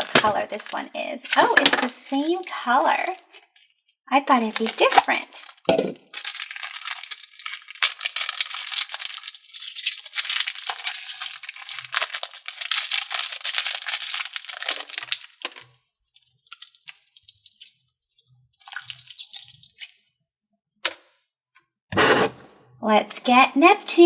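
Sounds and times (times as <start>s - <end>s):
slime squelching by hand: 0.0s - 20.1s.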